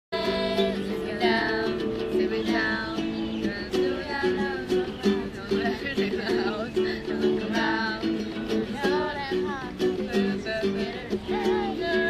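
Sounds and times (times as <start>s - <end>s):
strummed acoustic guitar: 0.2s - 12.0s
young women singing together: 0.2s - 12.0s.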